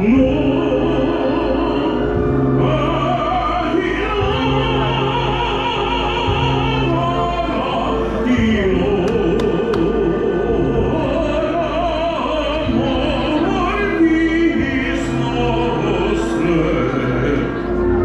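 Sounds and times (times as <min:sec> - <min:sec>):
live music with vibrato melody: 0:00.0 - 0:18.0.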